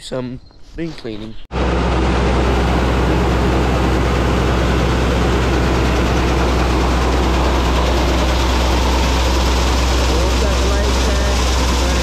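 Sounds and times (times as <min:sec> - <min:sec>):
grain augers running: 0:01.5 - 0:12.0
low engine drone: 0:01.5 - 0:12.0
grain pouring into hopper: 0:01.6 - 0:12.0.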